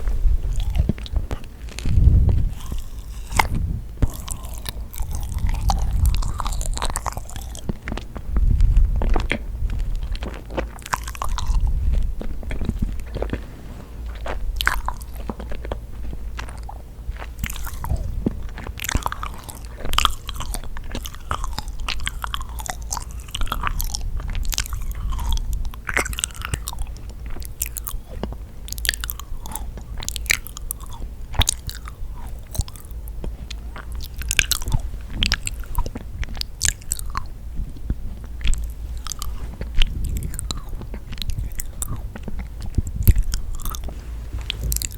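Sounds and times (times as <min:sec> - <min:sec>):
close chewing and biting: 0:00.0 - 0:44.9.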